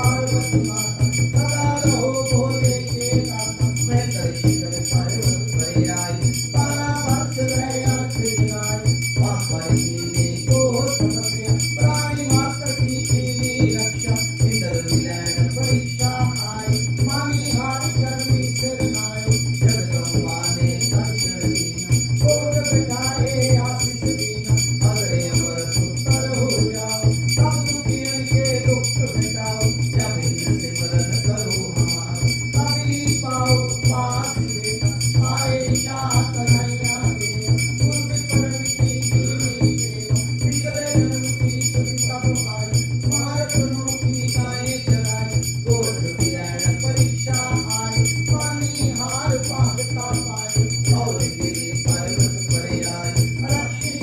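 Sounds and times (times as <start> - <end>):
bells ringing: 0.0 - 54.0
people singing devotional song: 0.0 - 54.0
steady drum beat: 0.0 - 54.0.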